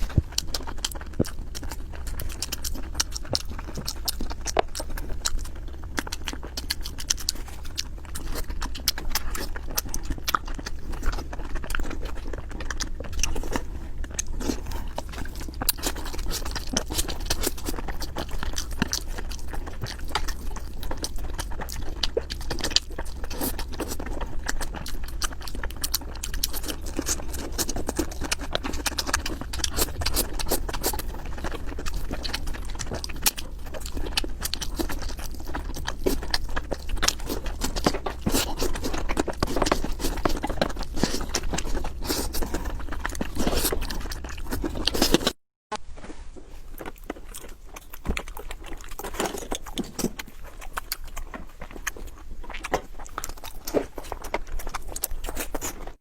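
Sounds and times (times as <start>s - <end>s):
close chewing with wet mouth clicks: 0.0s - 45.4s, 46.5s - 56.0s.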